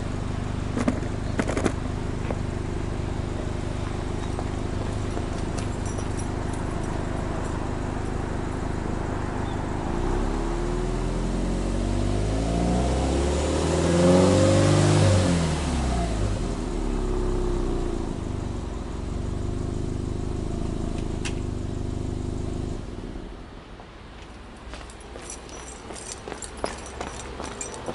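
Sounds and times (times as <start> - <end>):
car engine idling and revving: 0.0 - 27.9.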